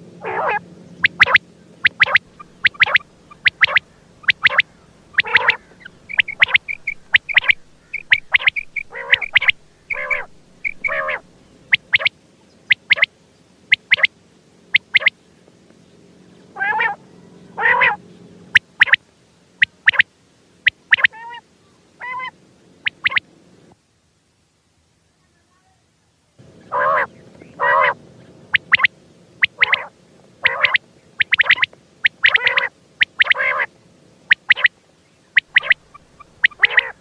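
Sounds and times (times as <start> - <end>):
faint steady hum: 0.0 - 37.0
quail calling: 0.2 - 13.1, 13.7 - 14.1, 14.7 - 15.1, 16.5 - 19.0, 19.6 - 21.4, 22.0 - 23.2, 26.6 - 37.0.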